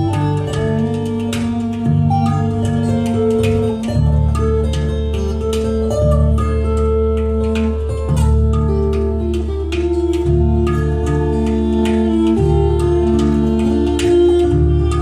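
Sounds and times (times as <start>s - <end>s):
acoustic guitar: 0.0s - 15.0s
bowed viola: 0.0s - 15.0s
handpan ringing notes: 0.0s - 15.0s.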